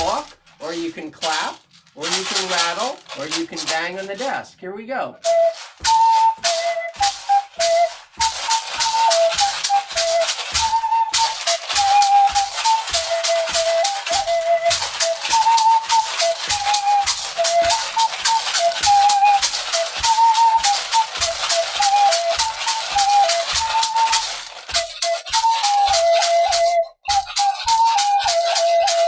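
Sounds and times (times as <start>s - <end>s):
flute melody: 0.0s - 4.2s, 5.1s - 29.0s
hand rattle shaking: 0.0s - 4.6s, 5.2s - 29.0s.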